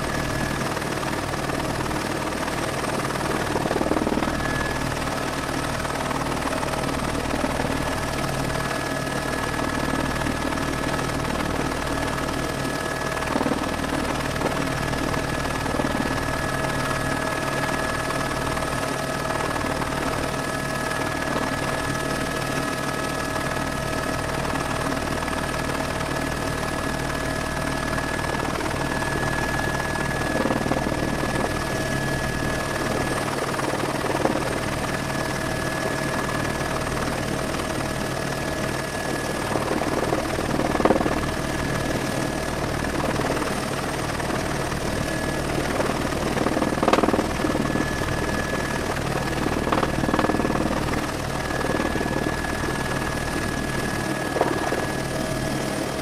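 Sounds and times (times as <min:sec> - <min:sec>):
helicopter rotor and engine rumble: 0:00.0 - 0:56.0.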